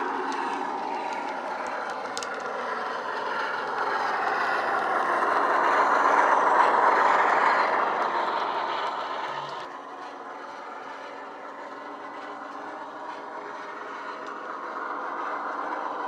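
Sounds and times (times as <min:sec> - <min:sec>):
model diesel locomotive engine sound: 0:00.0 - 0:16.0
wheels on track: 0:00.0 - 0:16.0.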